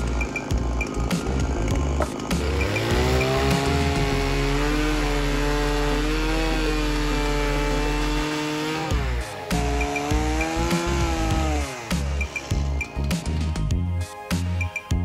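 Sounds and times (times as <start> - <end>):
chainsaw cutting wood: 0.0 - 13.6.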